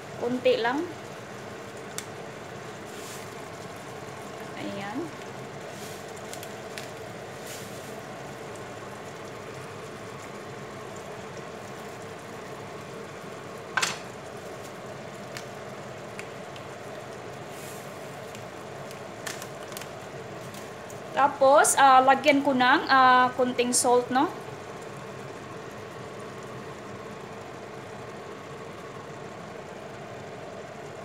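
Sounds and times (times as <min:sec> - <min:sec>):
chicken sizzling in a frying pan: 0:00.0 - 0:31.0.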